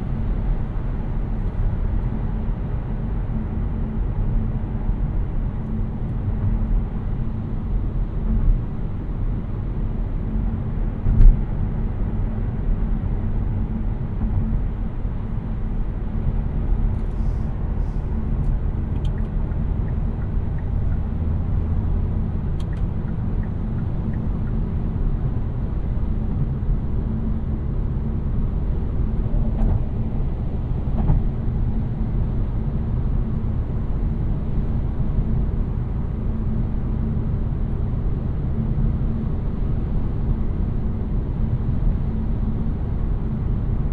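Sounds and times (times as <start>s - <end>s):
road and tyre rumble in car cabin: 0.0s - 43.9s.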